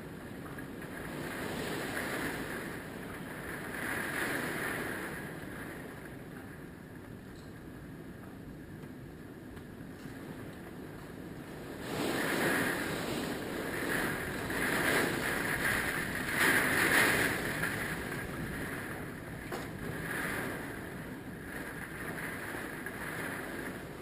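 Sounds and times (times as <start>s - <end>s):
strong wind gusting: 0.0s - 24.0s.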